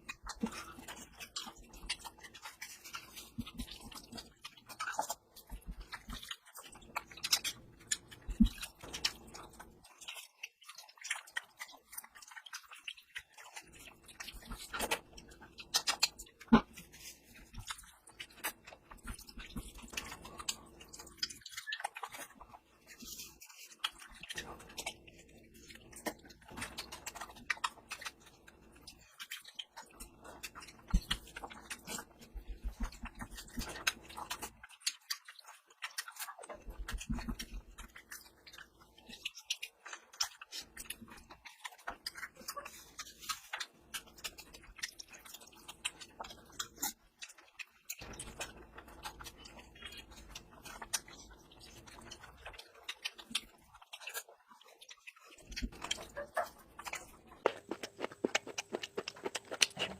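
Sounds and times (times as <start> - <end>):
person chewing with wet mouth sounds: 0.0 - 59.9.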